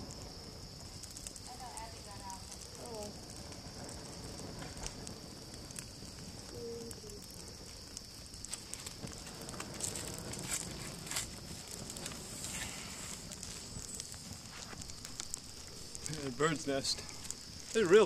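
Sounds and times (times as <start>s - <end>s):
small fire crackling and popping: 0.0s - 18.0s.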